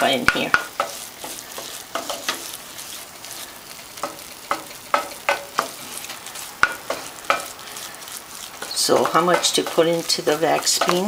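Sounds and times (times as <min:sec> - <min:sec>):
spoon scraping a skillet: 0:00.0 - 0:11.0.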